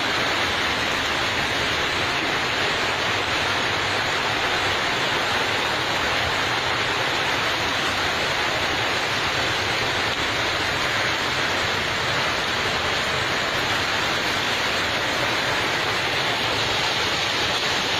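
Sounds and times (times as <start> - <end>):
heavy rain pouring: 0.0 - 17.9.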